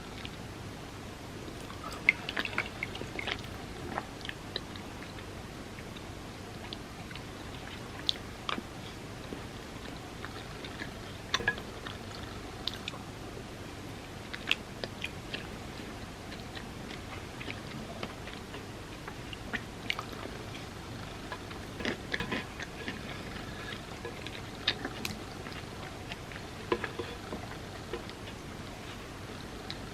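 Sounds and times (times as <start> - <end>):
chewing and wet mouth sounds: 1.6 - 13.1, 14.3 - 29.9.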